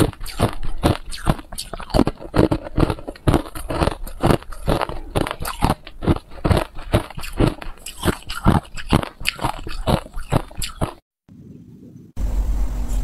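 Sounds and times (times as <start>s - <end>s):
person chewing ice: 0.0s - 11.0s.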